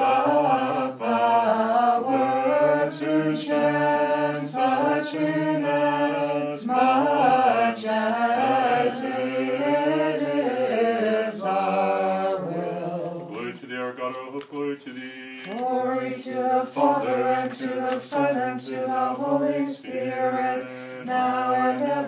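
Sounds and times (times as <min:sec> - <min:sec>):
unaccompanied choir chanting: 0:00.0 - 0:22.0.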